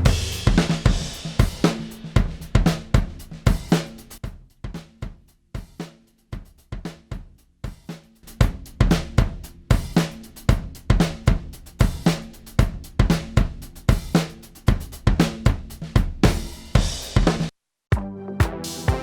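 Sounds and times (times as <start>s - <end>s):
drum loop: 0.0s - 4.8s, 7.7s - 19.0s.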